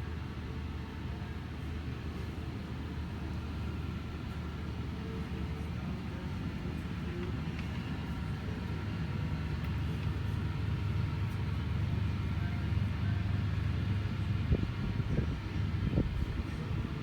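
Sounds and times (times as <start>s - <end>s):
low rumbling shop noise: 0.3s - 17.0s.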